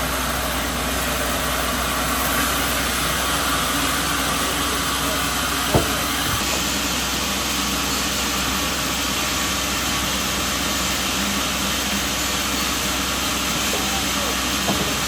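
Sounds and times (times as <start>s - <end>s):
low engine hum: 0.0s - 15.0s
sawmill machinery running: 0.0s - 15.0s.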